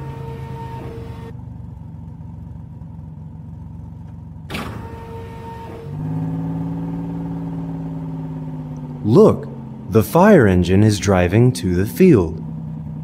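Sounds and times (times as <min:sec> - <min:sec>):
cartoon fire engine humming: 0:00.0 - 0:03.9, 0:04.5 - 0:13.0.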